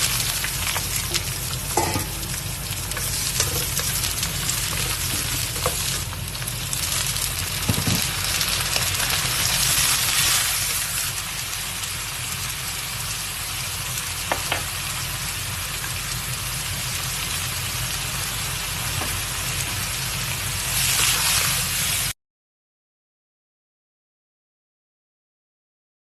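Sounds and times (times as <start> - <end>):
food sizzling in a wok: 0.0 - 22.2.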